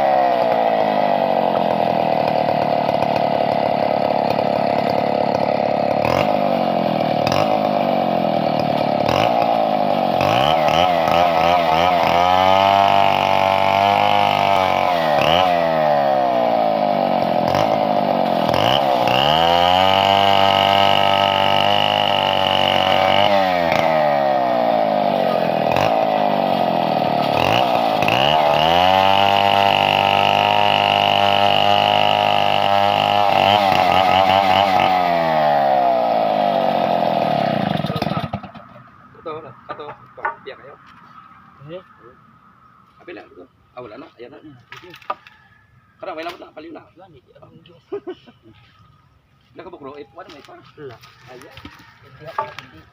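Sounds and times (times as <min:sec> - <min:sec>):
chainsaw cutting wood: 0:00.0 - 0:38.9, 0:39.7 - 0:41.0, 0:44.6 - 0:45.4, 0:50.2 - 0:52.9.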